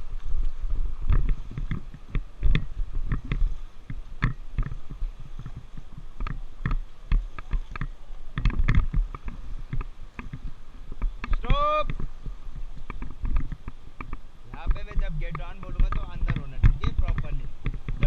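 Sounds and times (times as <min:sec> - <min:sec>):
paddles splashing in water: 0:00.0 - 0:18.0.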